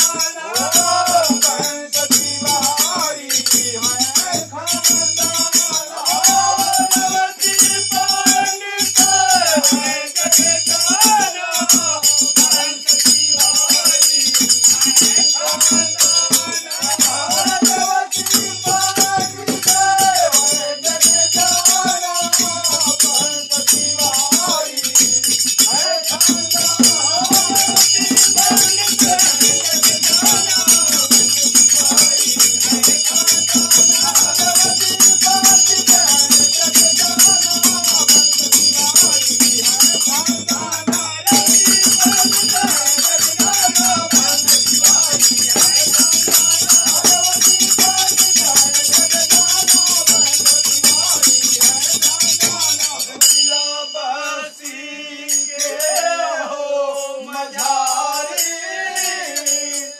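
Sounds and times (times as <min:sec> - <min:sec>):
men singing folk song: 0:00.0 - 0:59.9
metal percussion jingle: 0:00.0 - 0:59.9.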